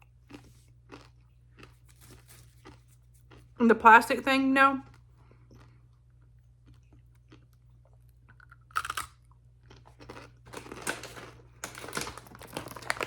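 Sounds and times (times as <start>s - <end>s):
person crunching candy: 0.0s - 3.6s, 4.8s - 13.0s.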